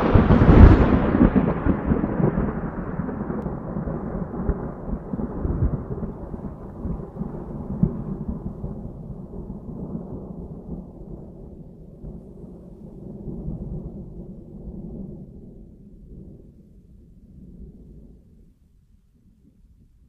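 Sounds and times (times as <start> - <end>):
thunder rumbling: 0.0 - 20.0.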